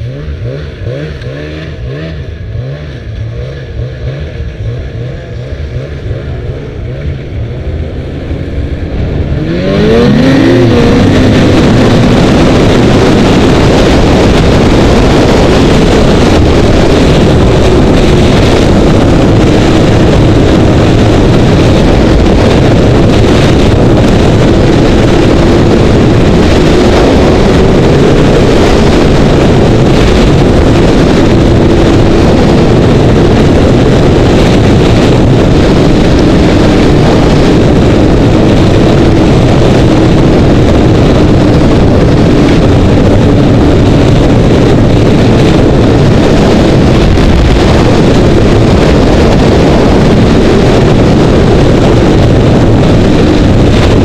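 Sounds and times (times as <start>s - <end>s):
dense rushing noise: 0.0s - 54.0s
snowmobile engine revving: 0.0s - 54.0s.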